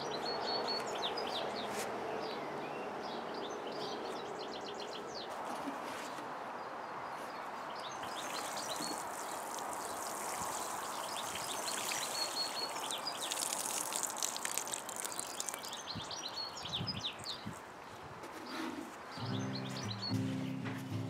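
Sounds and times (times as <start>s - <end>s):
small songbirds chirping: 0.0s - 5.3s, 6.6s - 21.0s.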